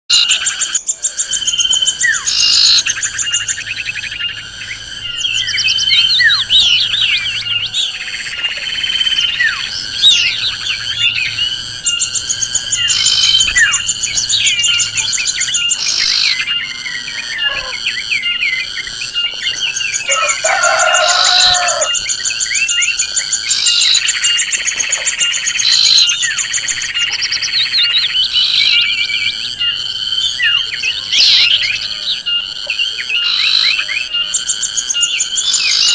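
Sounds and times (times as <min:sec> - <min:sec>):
birds chirping and calling: 0:00.1 - 0:35.9
low bird call: 0:00.1 - 0:35.9
pulsing insect trill: 0:00.1 - 0:35.9.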